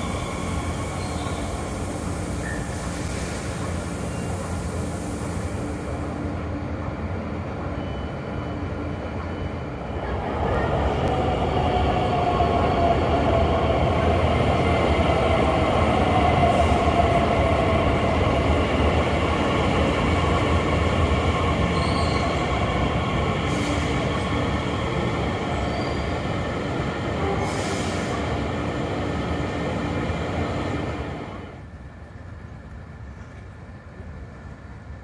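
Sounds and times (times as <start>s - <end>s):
electric train rolling rumble: 0.0s - 35.0s
faint train whine: 0.0s - 35.0s.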